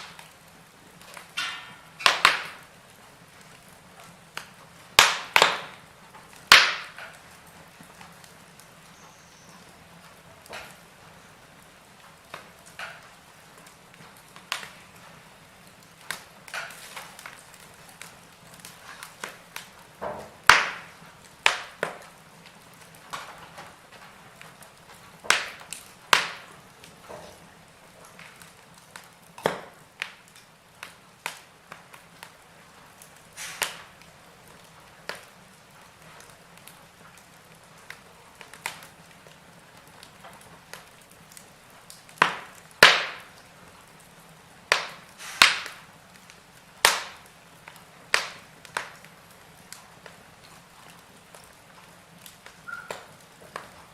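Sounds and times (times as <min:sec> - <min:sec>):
logs crackling and popping: 0:00.0 - 0:53.9
low hiss of flame: 0:00.0 - 0:53.9.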